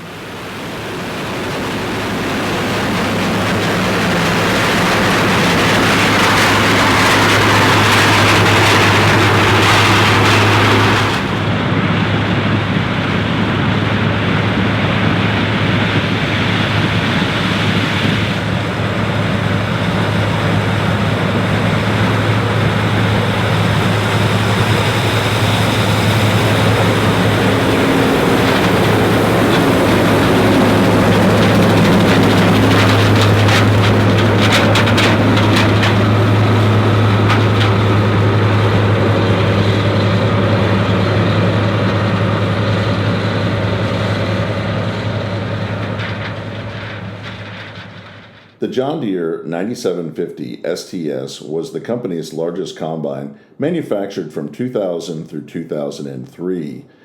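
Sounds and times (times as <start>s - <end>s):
combine harvester engine drone: 0.0s - 48.6s.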